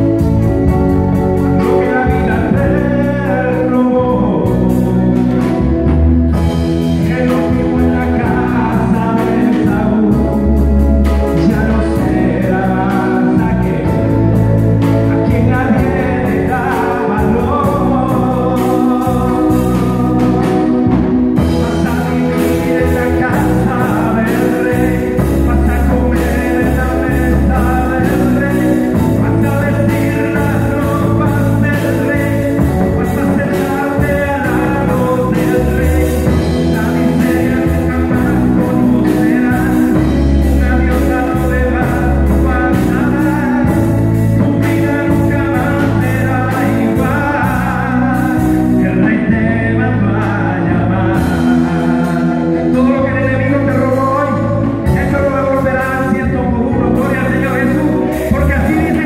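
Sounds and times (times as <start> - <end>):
electronic keyboard bass chords: 0.0 - 59.0
man singing into microphone: 0.0 - 59.0.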